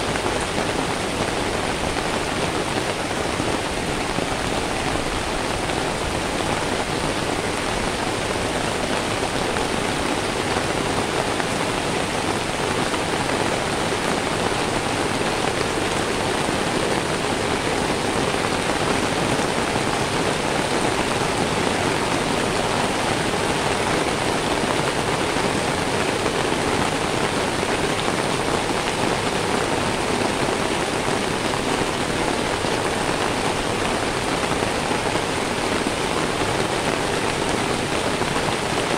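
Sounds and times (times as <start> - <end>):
rain on wet pavement: 0.0 - 38.9.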